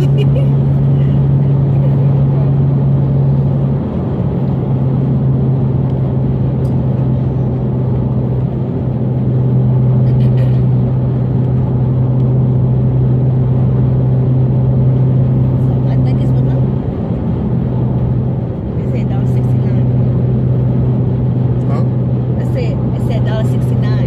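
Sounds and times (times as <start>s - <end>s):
car engine drone: 0.0s - 24.0s
road and tyre noise: 0.0s - 24.0s.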